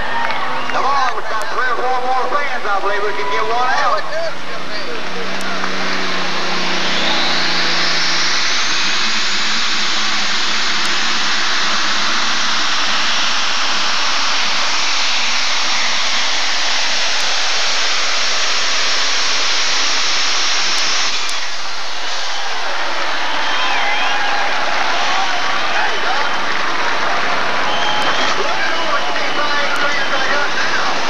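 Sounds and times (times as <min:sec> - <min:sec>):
tractor engine and turbo whine: 0:00.7 - 0:31.0.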